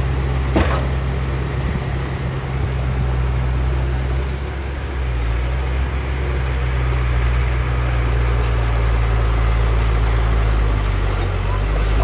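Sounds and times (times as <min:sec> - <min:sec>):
heavy machinery diesel engine humming: 0:00.0 - 0:12.0.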